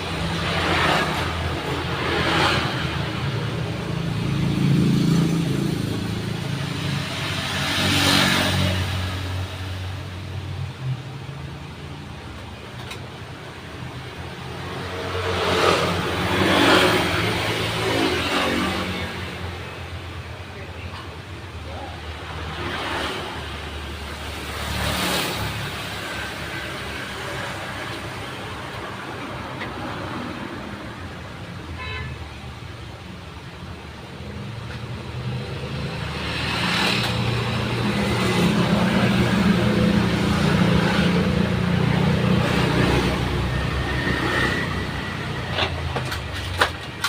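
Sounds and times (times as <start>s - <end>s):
low steady traffic hum: 0.0s - 47.0s.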